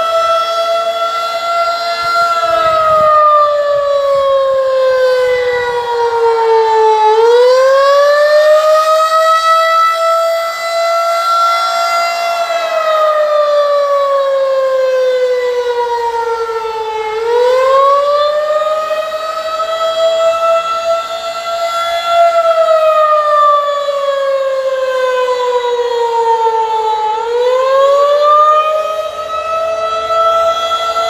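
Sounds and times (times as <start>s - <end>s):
outdoor warning siren wailing: 0.0s - 31.0s.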